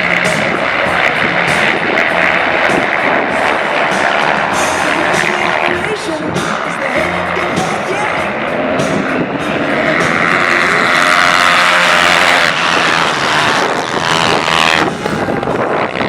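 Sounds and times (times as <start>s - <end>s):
racing motorcycle engines at high revs: 0.0s - 16.0s.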